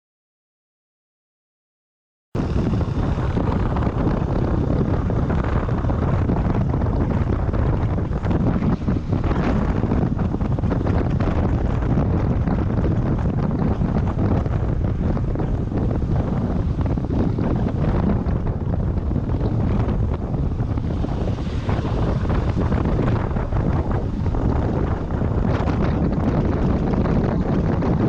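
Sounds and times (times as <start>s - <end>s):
wind buffeting a microphone: 2.4s - 28.0s.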